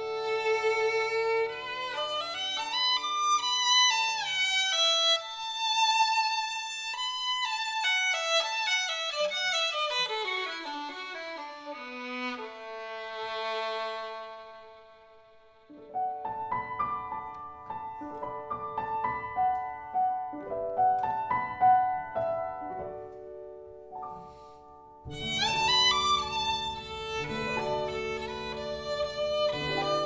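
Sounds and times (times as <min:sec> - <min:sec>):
violin melody: 0:00.0 - 0:30.0.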